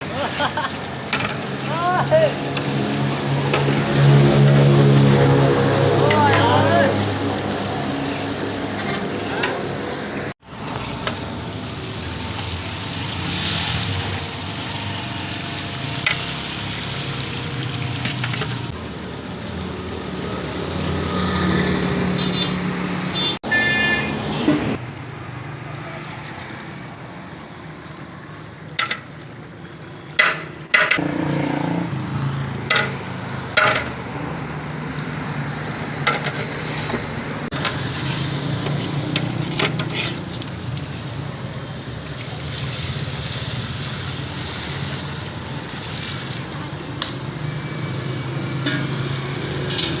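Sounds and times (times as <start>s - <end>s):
street traffic hum: 0.0s - 50.0s.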